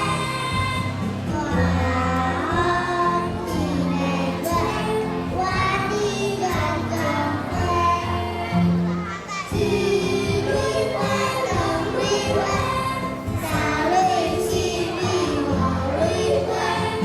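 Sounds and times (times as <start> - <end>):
children singing: 0.0 - 17.0
instrumental accompaniment: 0.0 - 17.0.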